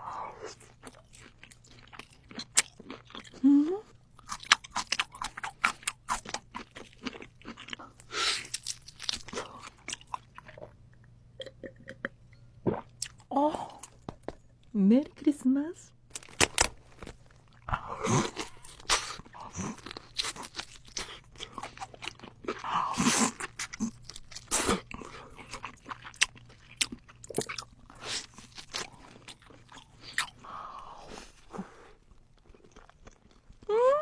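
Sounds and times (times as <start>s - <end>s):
crunching of crisp food: 0.5s - 3.5s, 4.1s - 10.8s, 16.1s - 33.7s.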